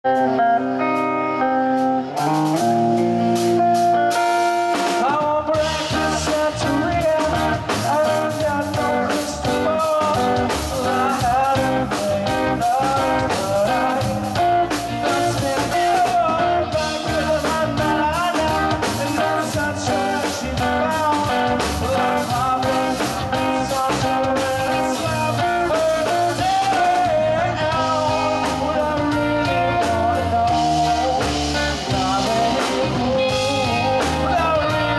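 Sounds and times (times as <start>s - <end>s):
rock band playing: 0.0s - 34.9s.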